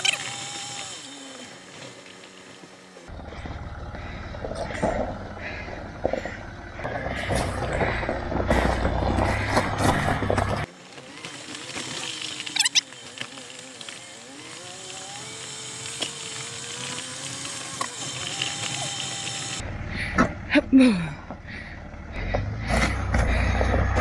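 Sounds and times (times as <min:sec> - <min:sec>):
diesel engine at low revs: 0:00.0 - 0:24.0
low rumble with crunching gravel: 0:01.3 - 0:15.0, 0:15.8 - 0:24.0.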